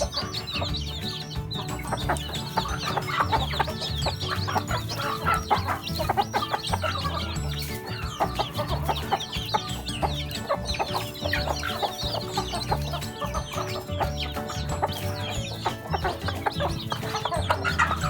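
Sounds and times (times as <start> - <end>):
background music with low beat: 0.0 - 18.0
chicks peeping: 0.0 - 18.0
hen clucking: 0.0 - 18.0.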